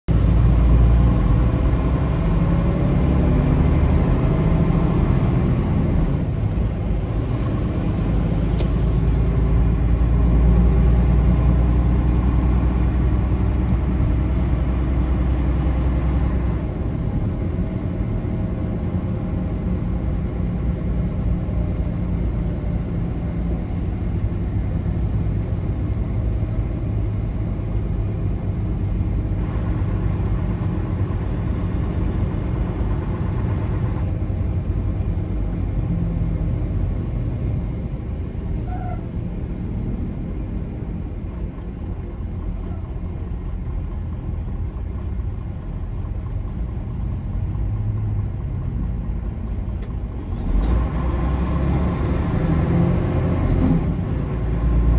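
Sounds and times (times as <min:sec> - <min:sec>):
road vehicle rumble: 0:00.0 - 0:54.9.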